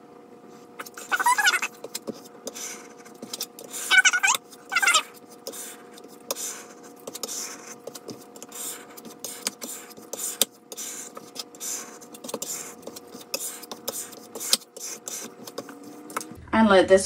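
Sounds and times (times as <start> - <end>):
faint steady hum: 0.0 - 17.0
squeegee scraping over vinyl: 0.8 - 16.4.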